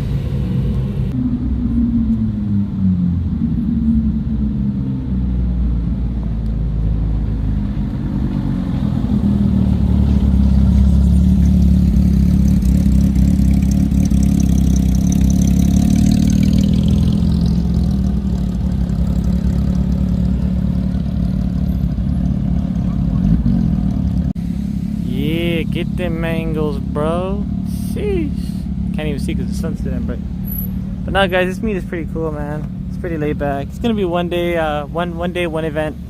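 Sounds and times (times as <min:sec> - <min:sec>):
car engine running at low revs: 0:00.0 - 0:36.0.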